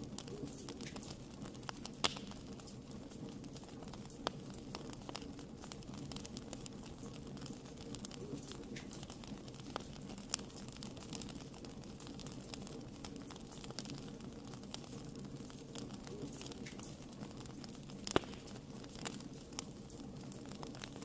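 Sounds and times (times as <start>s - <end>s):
low rumble of burning: 0.0s - 21.0s
wood fire crackling and popping: 0.0s - 21.0s.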